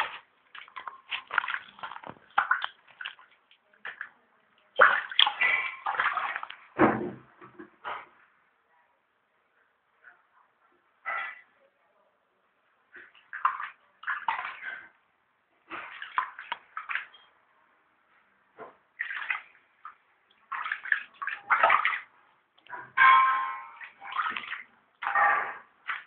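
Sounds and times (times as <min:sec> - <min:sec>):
water splashing and sloshing: 0:00.0 - 0:08.1, 0:12.9 - 0:26.0.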